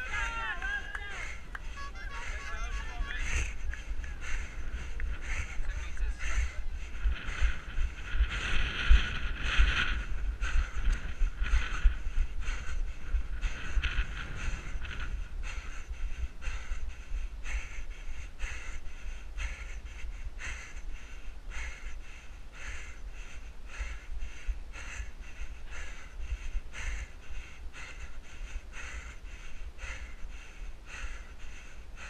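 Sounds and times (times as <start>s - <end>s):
runner panting hard: 0.0s - 32.0s
wind rumble on microphone: 0.0s - 32.0s.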